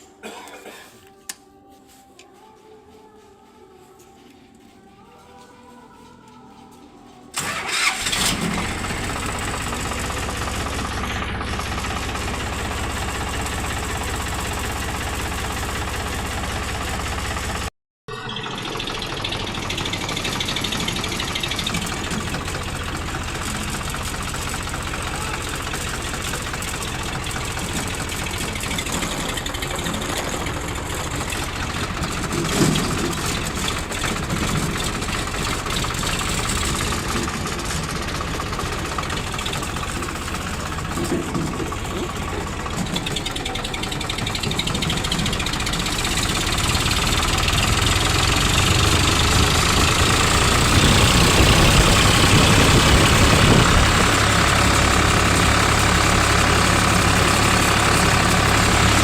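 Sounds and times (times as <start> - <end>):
engine running: 7.3 - 59.0.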